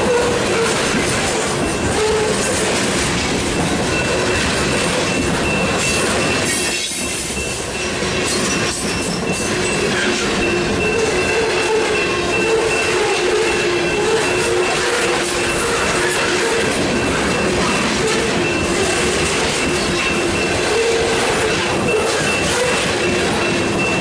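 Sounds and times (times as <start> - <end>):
electronic crossing bell ringing: 0.0 - 24.0
freight train wheels rumbling on rails: 0.0 - 24.0
wheel squeal: 3.6 - 24.0.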